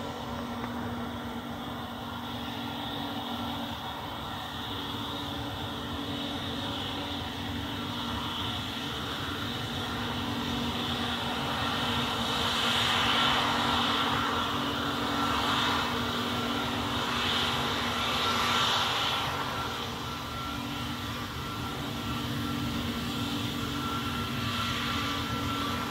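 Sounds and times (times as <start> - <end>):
jet engines whining: 0.0 - 25.9.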